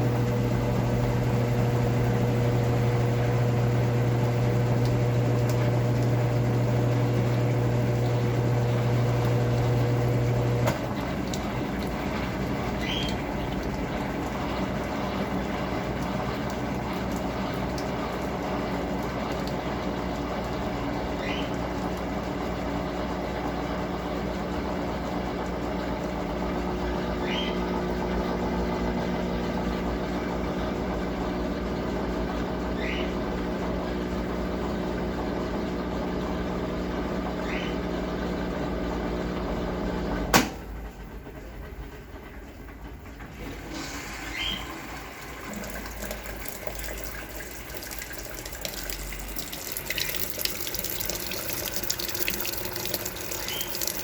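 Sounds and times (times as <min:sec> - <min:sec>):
washing machine motor humming: 0:00.0 - 0:54.0
water running into machine: 0:00.0 - 0:54.0.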